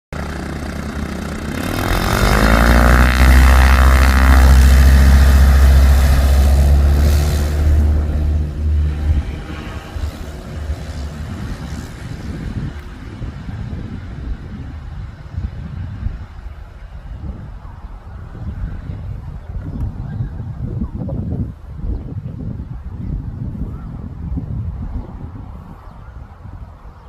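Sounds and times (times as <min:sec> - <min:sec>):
propeller aircraft engine drone: 0:00.1 - 0:27.0.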